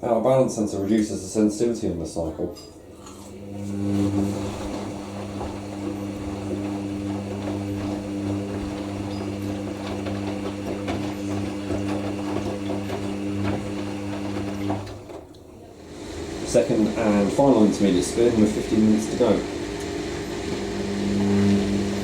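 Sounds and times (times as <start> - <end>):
washing machine hum: 0.0 - 22.0
water rattling through pump: 3.0 - 22.0.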